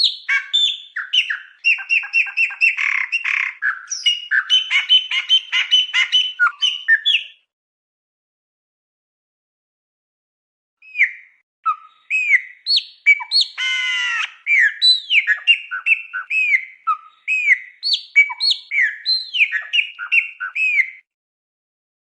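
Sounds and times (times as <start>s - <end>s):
songbird singing whistled notes: 0.0s - 7.4s, 10.8s - 21.1s.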